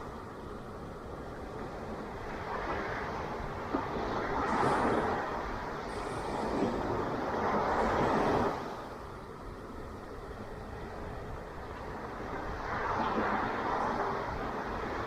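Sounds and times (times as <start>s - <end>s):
ocean waves breaking on beach: 0.0s - 15.0s.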